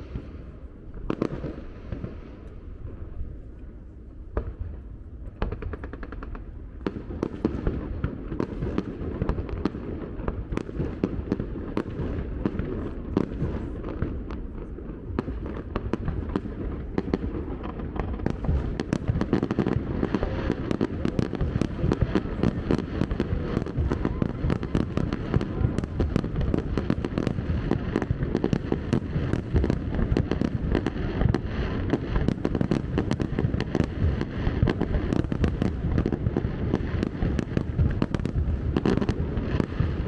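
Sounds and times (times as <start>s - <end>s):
distant fireworks bangs and crackling: 0.0s - 40.0s.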